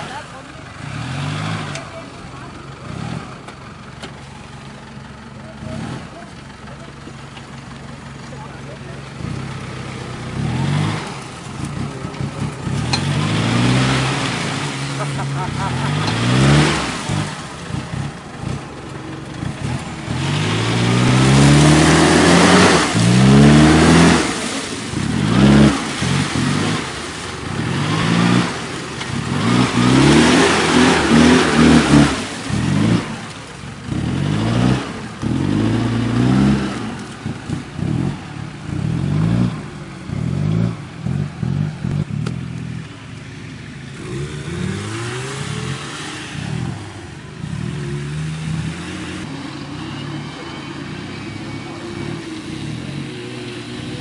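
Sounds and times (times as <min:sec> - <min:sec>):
engine revving hard: 0:00.0 - 0:02.2, 0:02.8 - 0:03.5, 0:05.6 - 0:06.3, 0:09.0 - 0:18.8, 0:19.4 - 0:42.3, 0:43.9 - 0:54.0.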